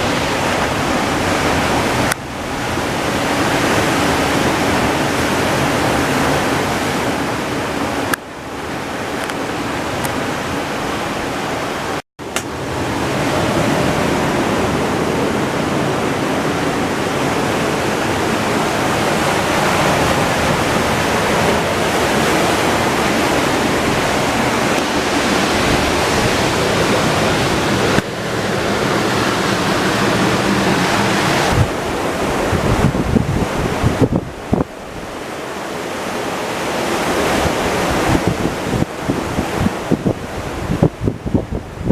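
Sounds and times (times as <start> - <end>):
ocean waves rushing: 0.0 - 41.9.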